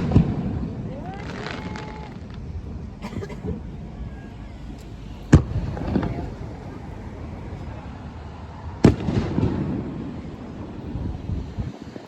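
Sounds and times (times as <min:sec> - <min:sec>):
firework burst booming: 0:00.0 - 0:04.0, 0:04.6 - 0:12.0
spectators murmuring: 0:00.0 - 0:12.0.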